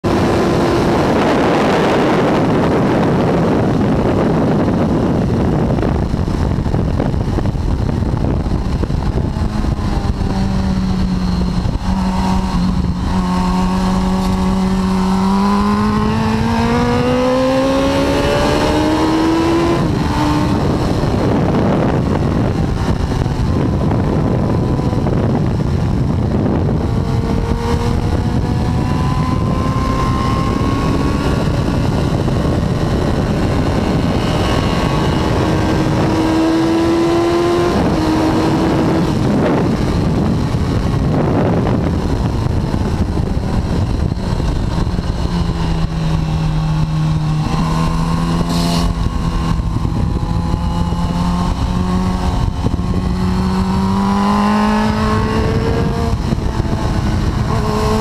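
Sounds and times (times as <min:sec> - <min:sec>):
heavy wind rush: 0:00.0 - 0:58.0
motorcycle engine running: 0:00.0 - 0:58.0.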